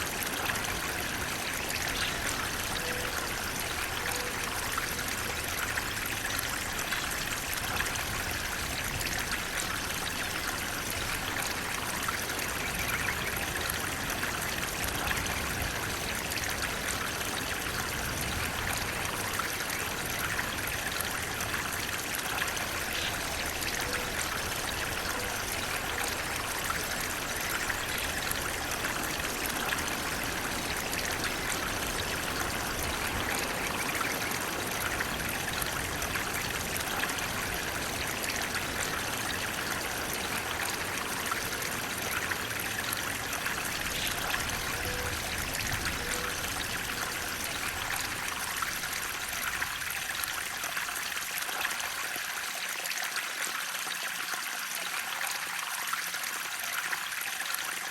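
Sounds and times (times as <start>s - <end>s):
water flowing and trickling: 0.0s - 57.9s.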